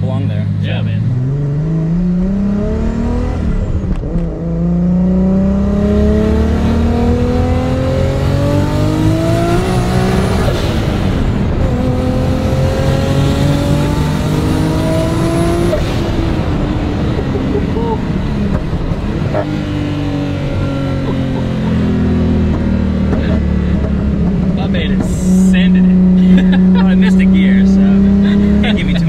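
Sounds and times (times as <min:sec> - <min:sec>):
car engine accelerating through gears: 0:01.0 - 0:29.0.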